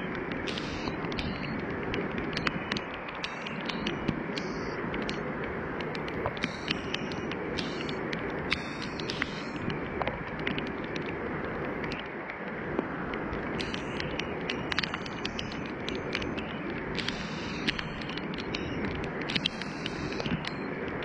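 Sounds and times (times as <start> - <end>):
heavy storm rain: 0.0 - 21.0
raindrops ticking: 0.0 - 21.0
wind: 0.0 - 21.0.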